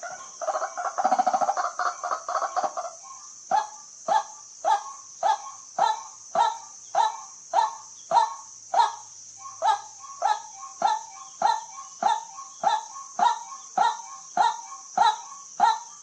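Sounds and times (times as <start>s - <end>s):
steady high hiss: 0.0s - 16.0s
waterhen calling: 0.0s - 16.0s.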